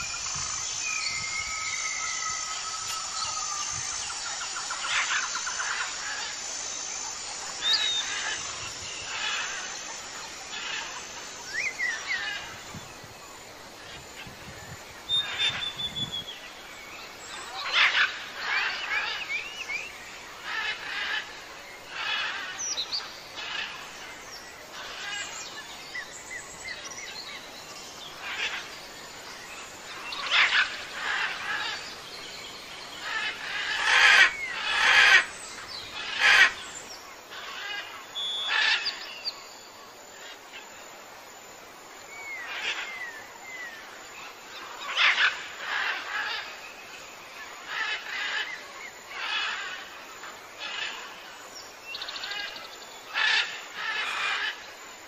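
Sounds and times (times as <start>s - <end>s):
birds chirping: 0.0s - 13.1s, 14.1s - 39.6s, 42.1s - 54.7s.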